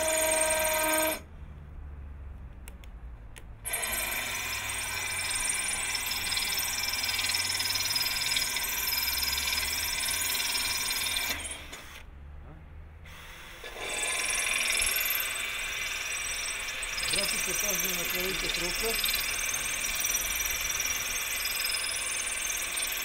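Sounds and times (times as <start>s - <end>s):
drill clicks: 0.0s - 1.2s, 3.4s - 12.1s, 13.1s - 23.0s
drill grinding through tile: 0.0s - 1.2s, 3.6s - 12.1s, 13.1s - 23.0s.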